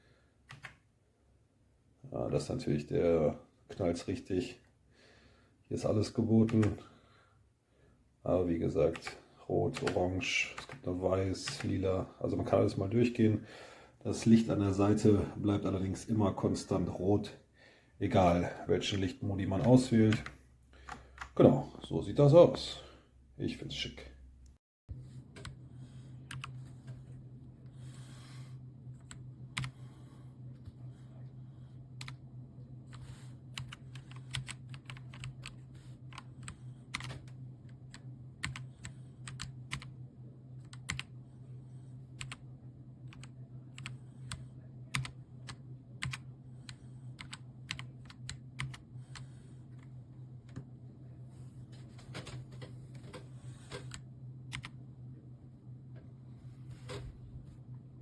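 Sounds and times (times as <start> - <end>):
steady low hum: 1.6 - 58.0.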